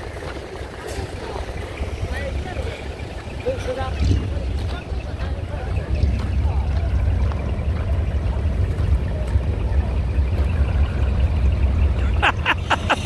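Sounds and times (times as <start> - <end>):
heavy truck engine rumbling: 0.0 - 13.0.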